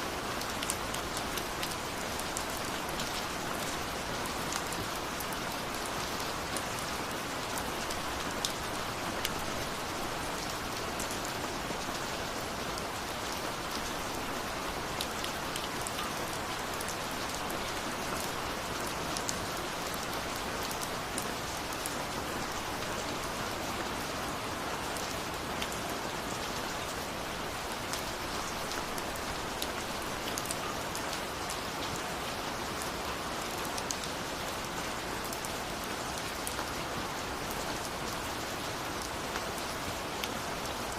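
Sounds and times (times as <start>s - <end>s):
steady rain falling: 0.0s - 40.9s
raindrops ticking on a surface: 0.1s - 23.7s, 24.4s - 40.9s.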